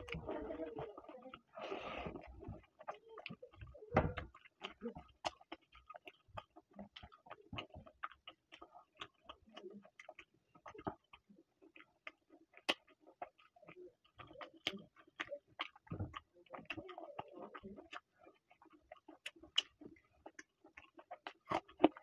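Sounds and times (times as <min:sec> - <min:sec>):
man chewing with lip smacks: 0:00.0 - 0:22.0.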